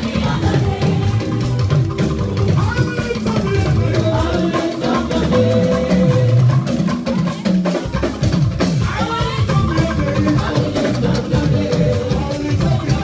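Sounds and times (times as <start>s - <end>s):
congregation singing: 0.0s - 7.4s, 8.8s - 13.0s
busy drum beat: 0.0s - 13.0s
live band music: 0.0s - 13.0s.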